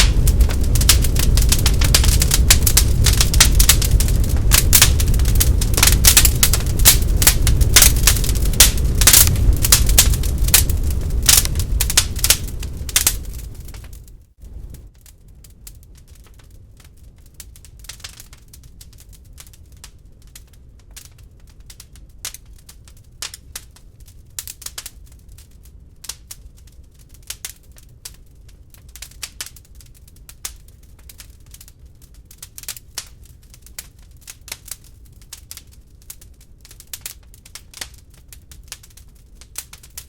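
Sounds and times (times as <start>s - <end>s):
log fire crackling and popping: 0.0s - 40.0s.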